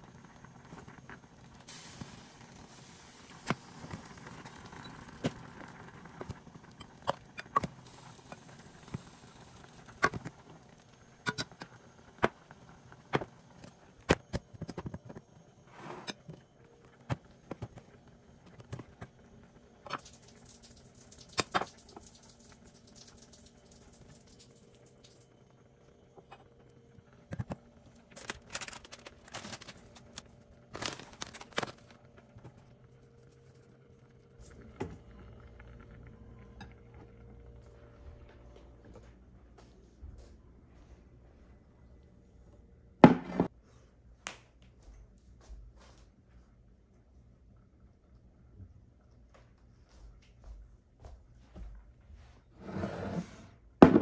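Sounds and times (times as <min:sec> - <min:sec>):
faint steady hum: 0:00.0 - 0:53.8.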